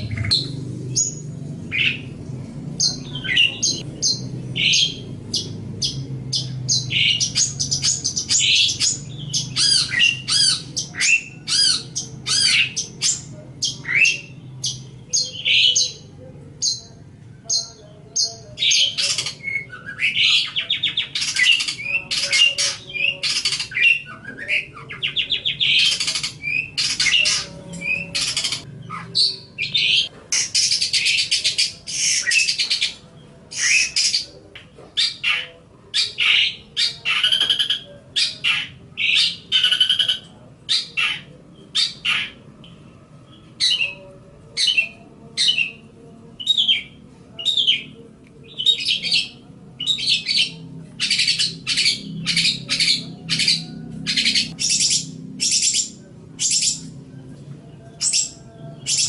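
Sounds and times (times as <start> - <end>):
shrike singing buzzy rasping notes: 0.0 - 34.3, 35.0 - 59.0.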